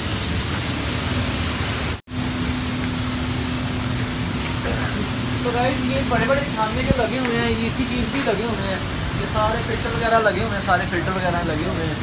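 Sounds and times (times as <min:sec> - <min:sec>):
rice mill machinery running: 0:00.0 - 0:12.0.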